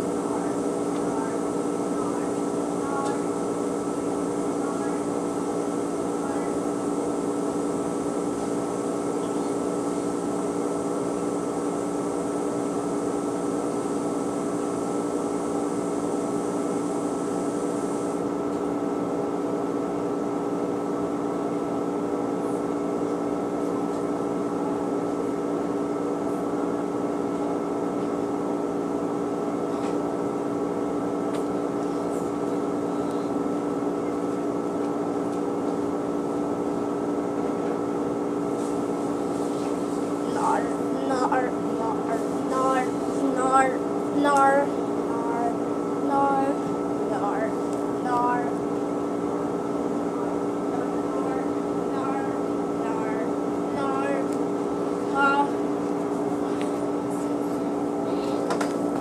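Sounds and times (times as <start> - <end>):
washing machine hum: 0.0 - 59.0.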